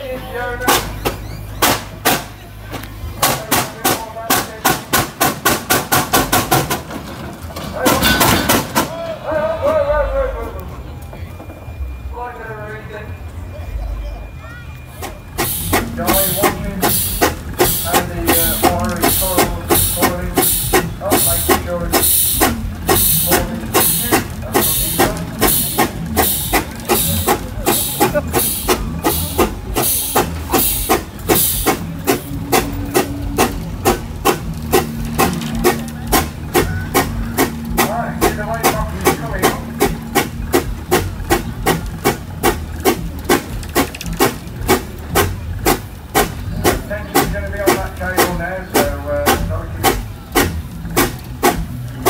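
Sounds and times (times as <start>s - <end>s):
steam engine exhaust chuffing: 0.0s - 9.0s, 14.8s - 52.0s
low mechanical rumble: 0.0s - 52.0s.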